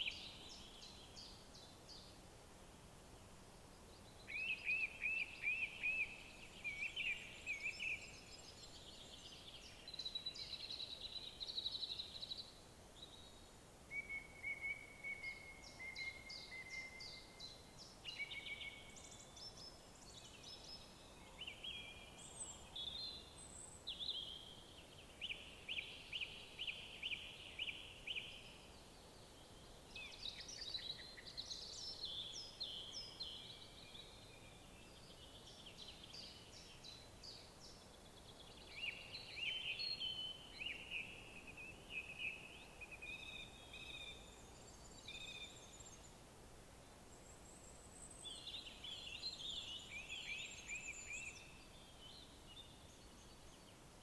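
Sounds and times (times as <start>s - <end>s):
songbirds singing: 0.0s - 2.2s, 3.2s - 46.3s, 47.1s - 54.0s
faint steady hiss: 0.0s - 54.0s.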